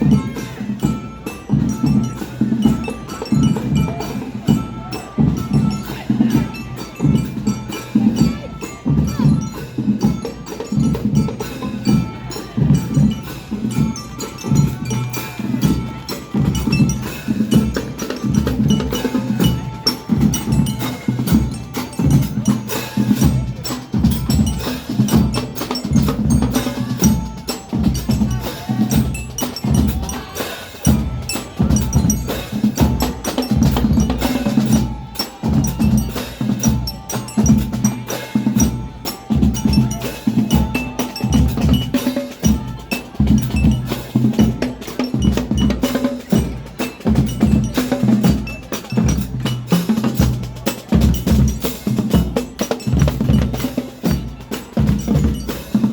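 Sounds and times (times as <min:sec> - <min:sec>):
bell-like melodic tones: 0:00.0 - 0:55.9
marching drums: 0:00.0 - 0:55.9.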